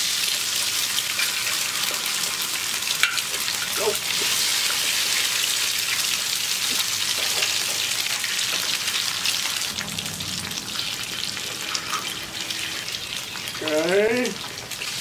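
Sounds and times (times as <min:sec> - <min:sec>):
eggs sizzling in grease: 0:00.0 - 0:15.0.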